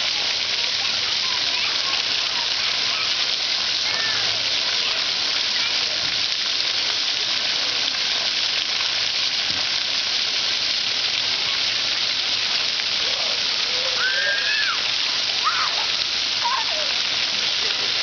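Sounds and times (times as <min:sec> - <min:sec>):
fountain jets spraying water: 0:00.0 - 0:18.0.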